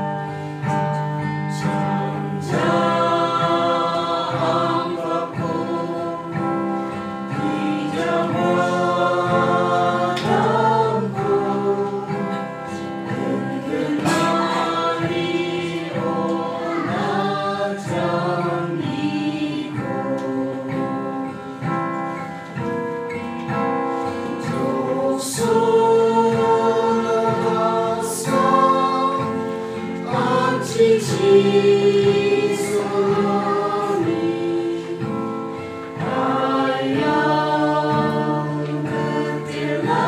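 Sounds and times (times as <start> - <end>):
acoustic guitar: 0.0 - 40.0
group singing a hymn: 0.0 - 40.0.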